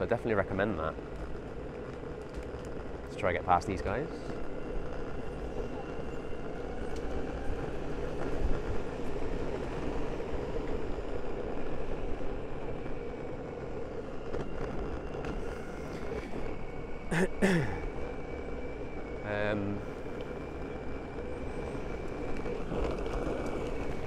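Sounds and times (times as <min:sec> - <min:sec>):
skateboard wheels rumbling on road: 0:00.0 - 0:19.2, 0:19.8 - 0:24.0
faint even whine: 0:00.0 - 0:24.0.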